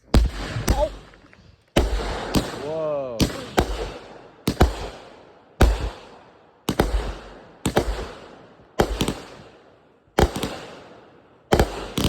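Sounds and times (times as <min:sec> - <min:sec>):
fireworks bangs with echo: 0:00.0 - 0:01.2, 0:01.8 - 0:09.6, 0:10.2 - 0:12.0.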